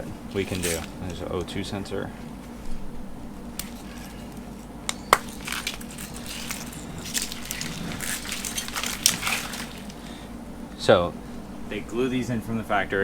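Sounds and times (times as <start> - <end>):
scraping and rustling of connector: 0.0 - 10.5.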